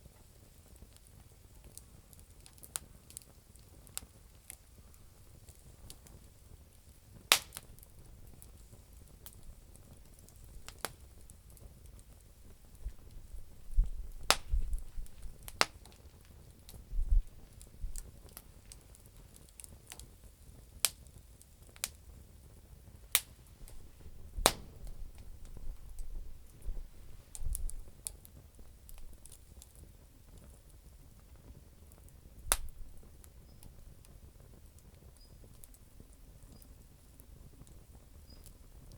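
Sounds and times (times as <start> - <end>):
campfire crackling pops: 0.0 - 38.9
faint hiss: 0.0 - 38.9.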